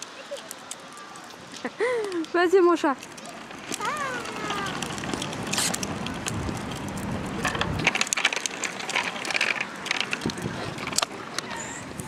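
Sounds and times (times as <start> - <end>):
bike wheels rattling on concrete: 0.0 - 12.0.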